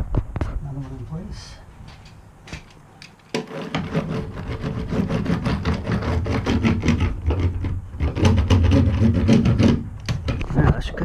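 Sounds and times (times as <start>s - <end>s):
rubbing and tapping on metal panel: 2.0s - 10.9s.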